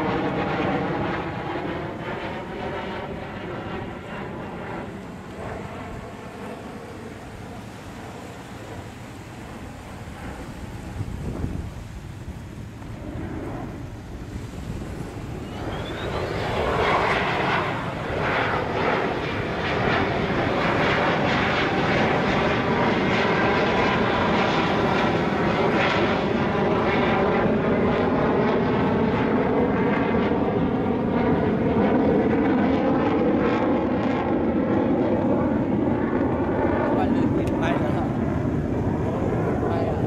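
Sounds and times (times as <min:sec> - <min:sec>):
fighter jet engine roar: 0:00.0 - 0:40.0.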